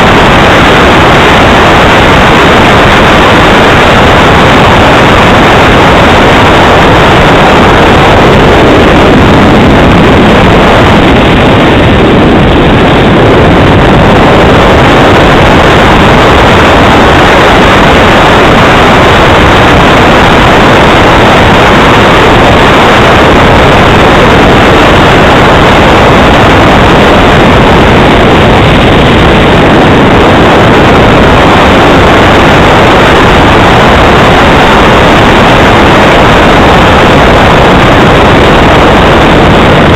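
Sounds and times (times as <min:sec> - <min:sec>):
model jet engine rushing: 0:00.0 - 0:39.9.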